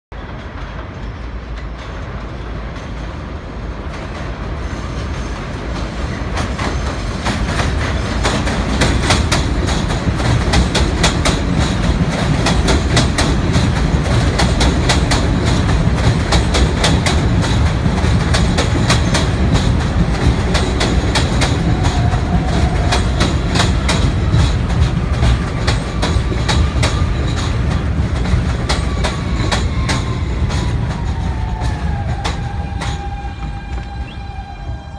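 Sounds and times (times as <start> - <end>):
train rumble: 0.1 - 34.9
train whine: 0.1 - 34.9.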